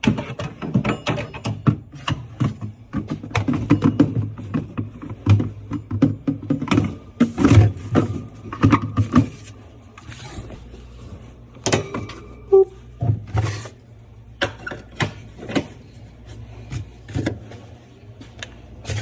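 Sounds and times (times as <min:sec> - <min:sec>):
steady low hum: 0:02.4 - 0:19.0.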